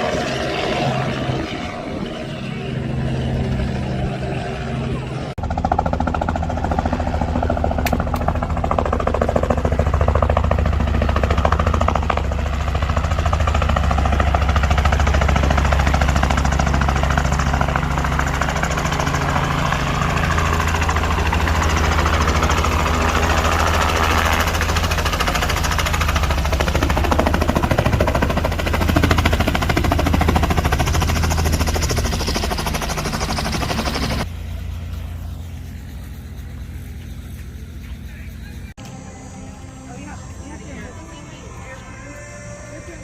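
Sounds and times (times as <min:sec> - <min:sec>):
aircraft engine droning: 0:00.0 - 0:43.0.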